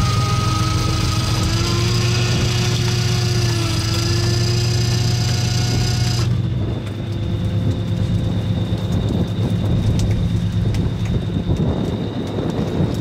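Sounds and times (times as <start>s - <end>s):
boat engine droning: 0.0s - 13.0s
water noise: 0.0s - 13.0s
wind: 0.0s - 13.0s.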